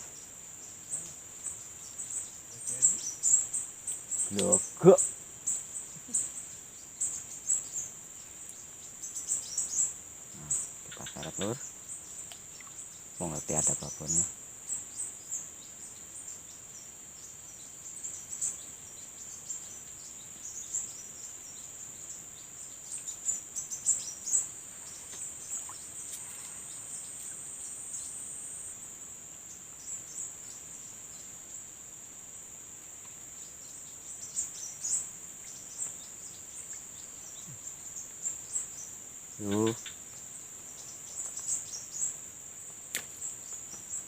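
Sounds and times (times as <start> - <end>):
bird chirps: 0.0 - 28.7, 33.4 - 42.2
insects trilling: 0.0 - 44.0.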